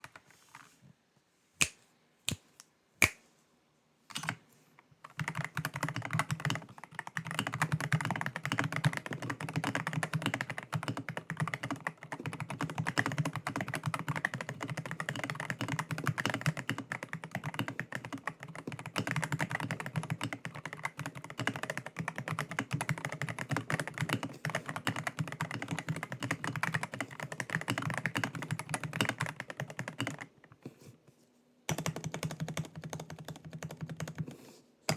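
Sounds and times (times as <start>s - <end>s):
mechanical keyboard typing: 4.1s - 4.4s, 5.1s - 30.3s, 31.7s - 34.3s.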